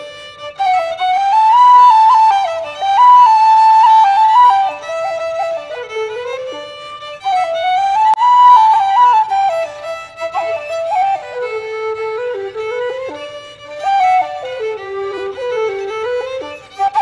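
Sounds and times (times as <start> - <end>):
violin: 0.0 - 17.0
wooden flute: 0.0 - 17.0.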